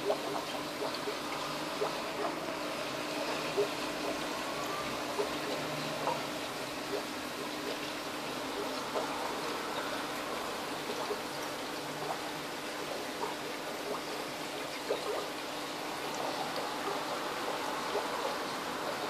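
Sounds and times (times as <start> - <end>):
aquarium aeration bubbling: 0.0 - 19.0.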